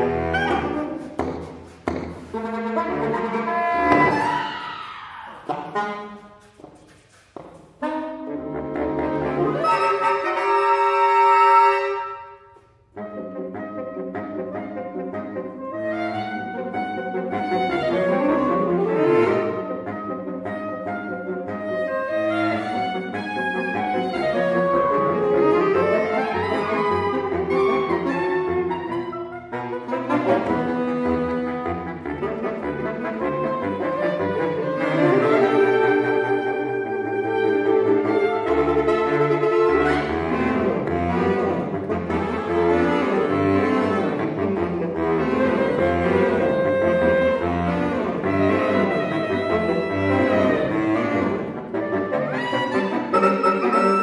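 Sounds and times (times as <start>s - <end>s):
saxophone quartet playing a tango: 0.0s - 54.0s.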